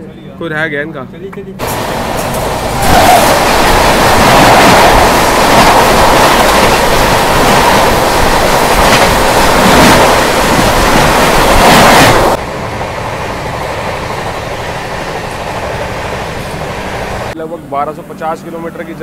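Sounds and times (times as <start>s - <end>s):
train wheel and wind rush: 1.4s - 17.4s.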